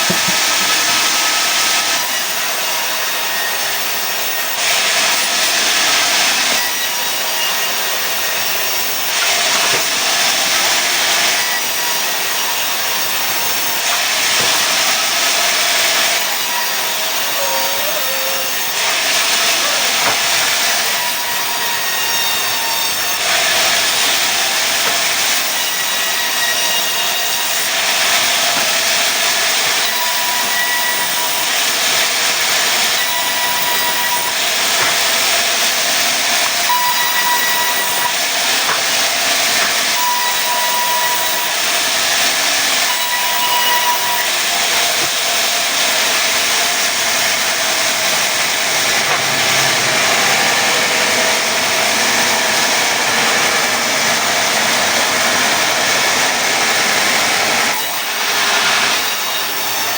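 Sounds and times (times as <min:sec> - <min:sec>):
sawmill saw cutting wood: 0:00.0 - 0:59.9.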